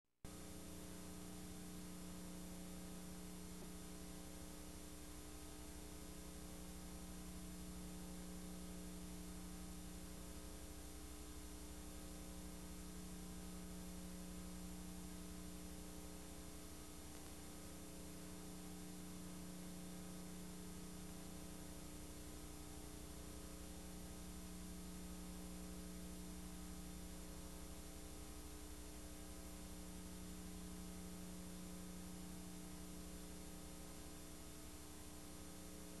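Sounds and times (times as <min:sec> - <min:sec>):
faint electrical hum: 0:00.3 - 0:36.0.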